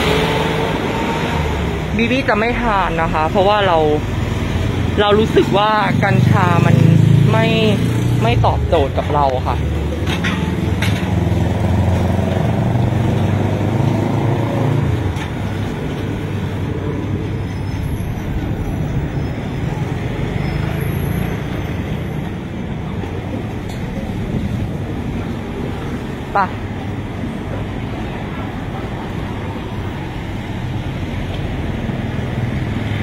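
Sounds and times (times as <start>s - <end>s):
passing cars and motorcycles: 0.0s - 33.0s.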